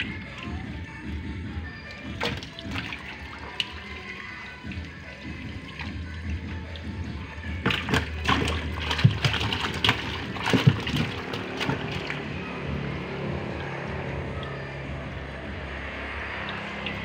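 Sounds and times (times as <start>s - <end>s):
fish splashing in water: 1.6s - 17.0s.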